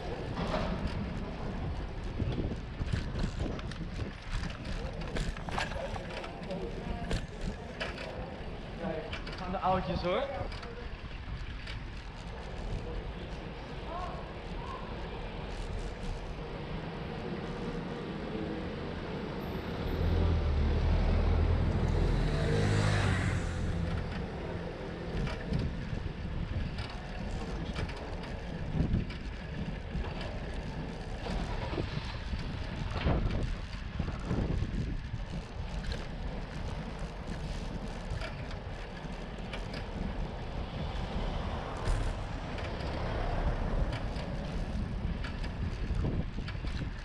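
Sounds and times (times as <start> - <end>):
wind buffeting microphone: 0.0 - 13.8, 22.8 - 47.0
bike rattling and knocking: 0.0 - 16.6, 23.4 - 47.0
tyre noise on road: 0.0 - 47.0.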